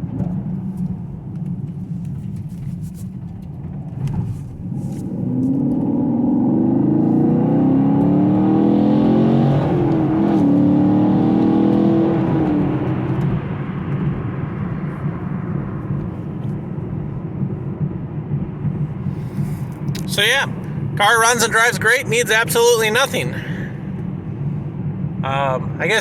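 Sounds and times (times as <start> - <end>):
road noise: 0.0 - 26.0
car engine accelerating hard: 3.4 - 26.0.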